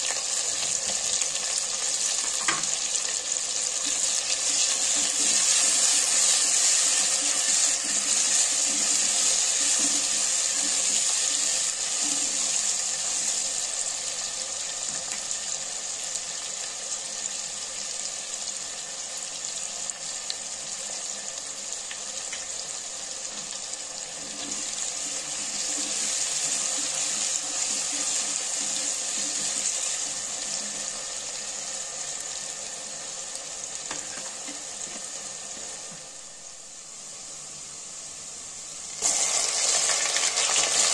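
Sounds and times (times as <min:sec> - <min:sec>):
onions frying in hot oil: 0:00.0 - 0:40.9.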